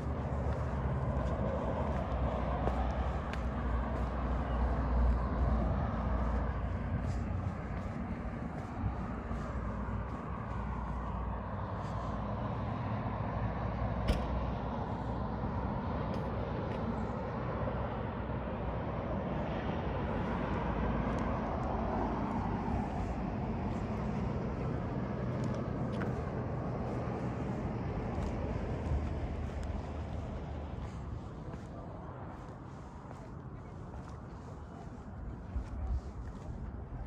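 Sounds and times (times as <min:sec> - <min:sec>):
road traffic hum: 0:00.0 - 0:37.0
vehicle passing: 0:00.0 - 0:37.0.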